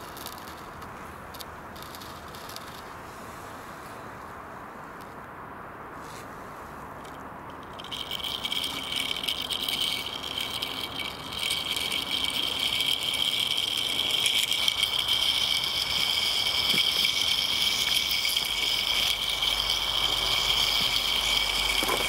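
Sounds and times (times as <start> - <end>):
toy car rattling over ground: 0.0 - 3.0, 7.0 - 22.0.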